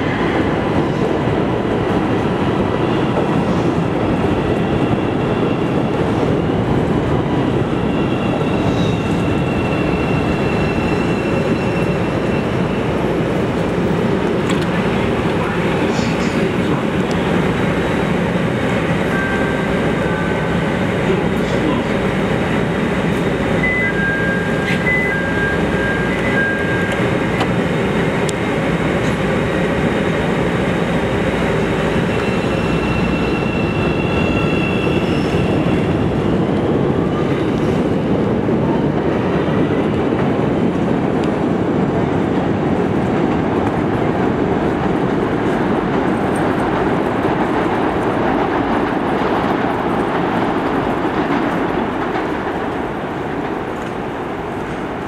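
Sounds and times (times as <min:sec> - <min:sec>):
train wheels clattering on rails: 0:00.6 - 0:55.0.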